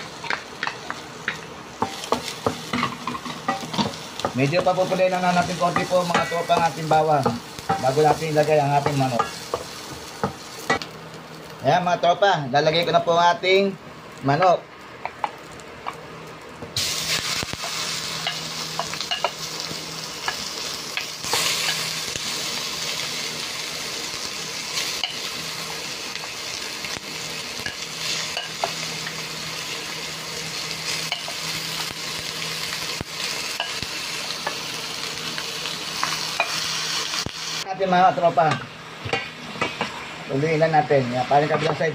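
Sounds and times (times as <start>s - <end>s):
chicken sizzling in hot oil: 0.0s - 12.0s, 16.7s - 38.5s.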